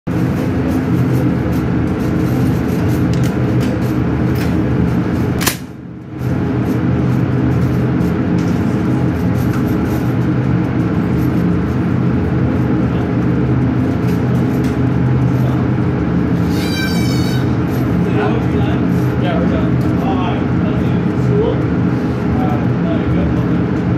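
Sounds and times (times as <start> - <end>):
ventilation fans droning: 0.1 - 23.9.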